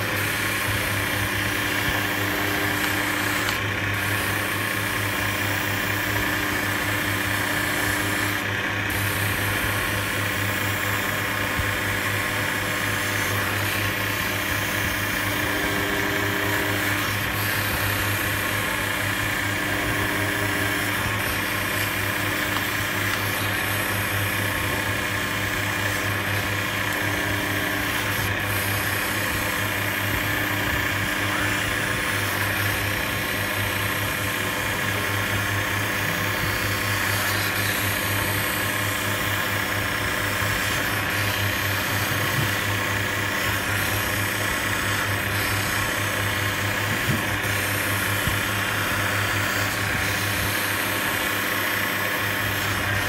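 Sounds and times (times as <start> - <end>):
hand edger motor hum: 0.0 - 53.0
lens grinding rasp: 0.0 - 53.0.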